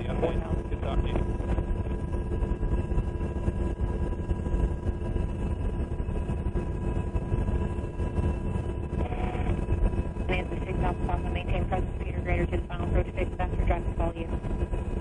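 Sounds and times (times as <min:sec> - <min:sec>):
helicopter engines and rotor drone: 0:00.0 - 0:15.0
whining tones: 0:00.0 - 0:15.0.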